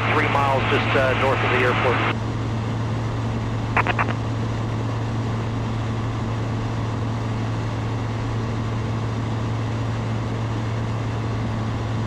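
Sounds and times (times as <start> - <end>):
aircraft engine and propeller drone: 0.0 - 12.0.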